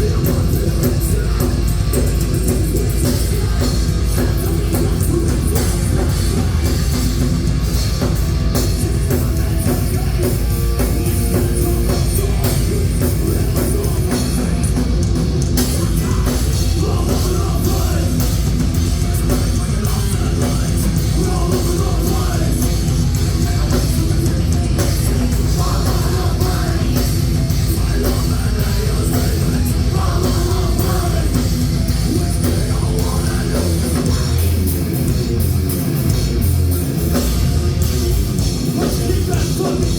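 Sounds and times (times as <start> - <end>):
heavy rock music: 0.0 - 39.9.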